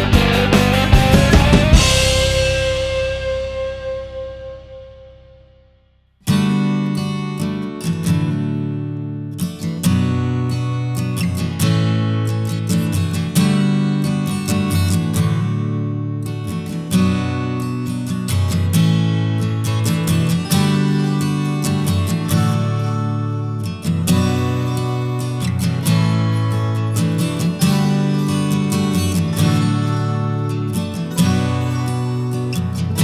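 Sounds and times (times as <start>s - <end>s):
strummed acoustic guitar: 0.0s - 5.5s, 6.2s - 33.0s.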